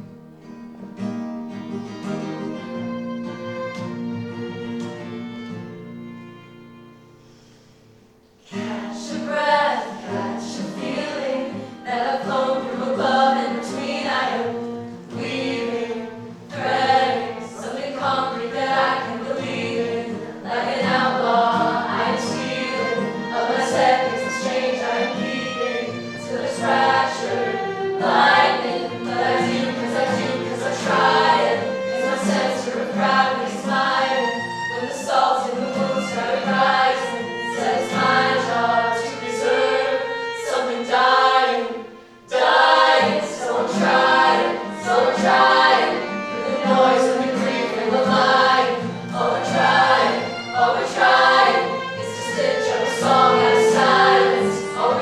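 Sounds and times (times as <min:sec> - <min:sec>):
group singing in harmony: 0:08.4 - 0:55.0.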